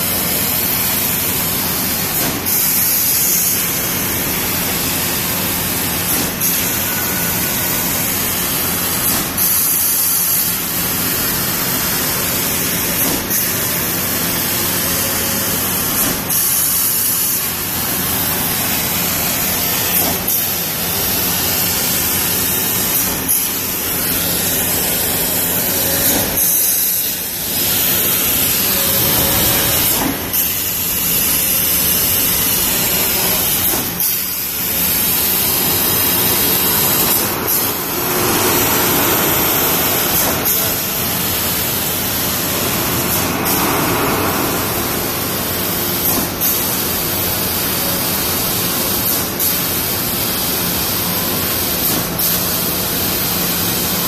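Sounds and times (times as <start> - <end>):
steady gas jet hiss: 0.0 - 54.0.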